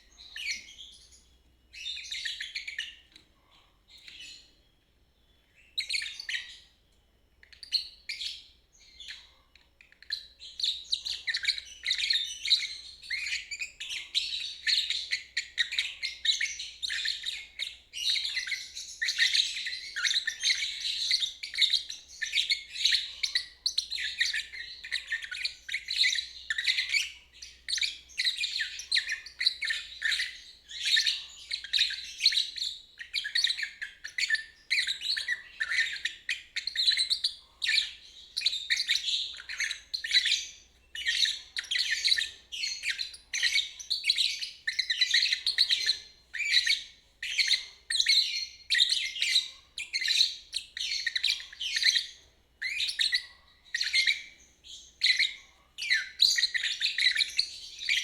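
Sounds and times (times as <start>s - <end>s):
lovebird chattering: 9.8s - 58.0s.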